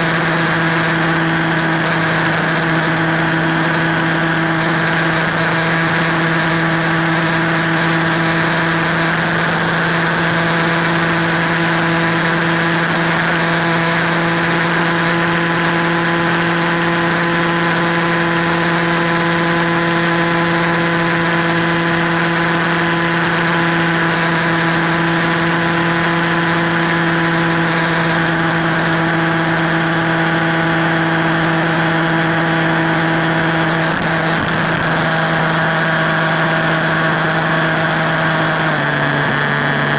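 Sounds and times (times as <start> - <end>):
motorcycle engine humming: 0.0 - 39.9.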